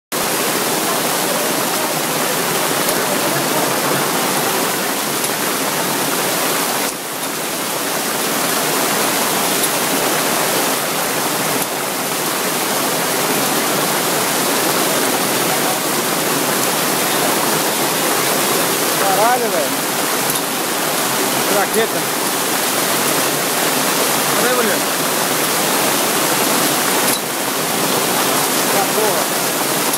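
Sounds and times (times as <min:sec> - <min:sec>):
heavy rain pouring: 0:00.1 - 0:29.9
rushing water: 0:00.1 - 0:29.9.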